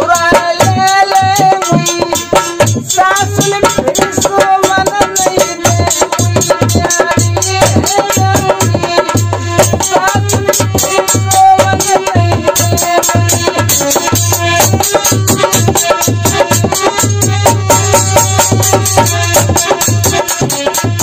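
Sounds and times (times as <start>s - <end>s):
man singing: 0.0s - 17.3s
hand drum beat: 0.0s - 21.0s
harmonium holding notes: 0.0s - 21.0s.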